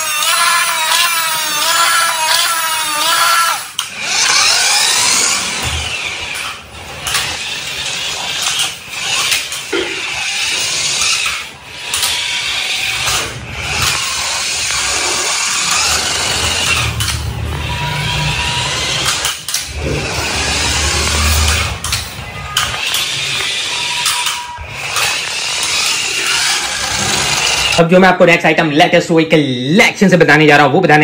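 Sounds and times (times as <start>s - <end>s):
toy car electric motor whining: 0.0s - 27.8s.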